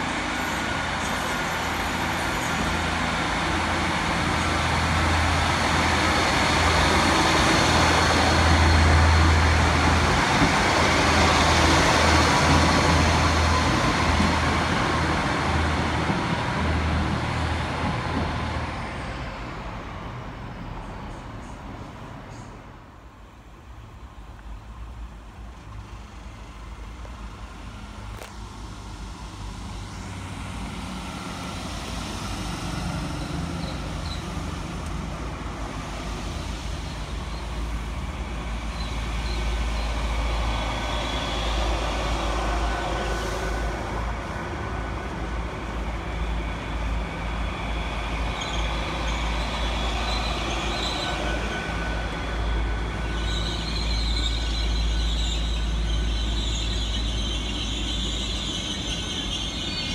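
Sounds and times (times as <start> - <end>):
train wheels squealing on rails: 0.0 - 22.7, 25.7 - 59.9
train rumbling past: 0.0 - 59.9.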